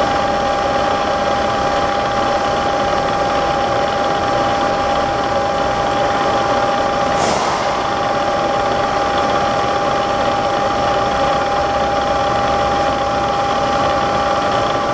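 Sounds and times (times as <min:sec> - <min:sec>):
milling machine humming: 0:00.0 - 0:14.9.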